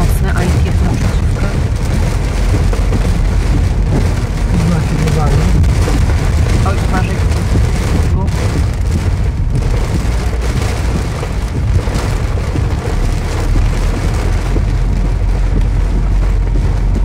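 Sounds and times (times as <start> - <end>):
car rumbling on wet road: 0.0 - 17.0
heavy rain on a car: 0.0 - 17.0.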